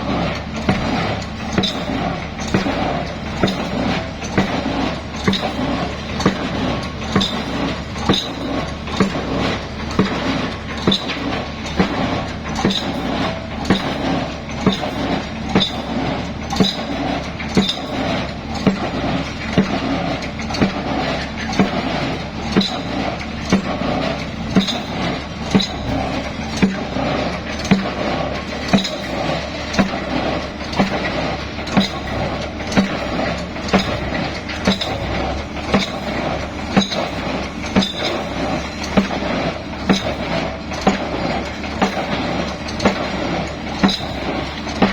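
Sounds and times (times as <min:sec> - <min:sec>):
construction machinery running: 0:00.0 - 0:44.9.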